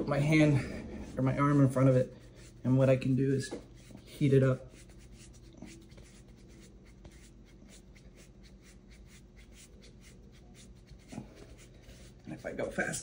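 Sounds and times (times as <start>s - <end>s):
low electrical hum: 0.0s - 13.0s
hand rubbing skin: 0.6s - 13.0s.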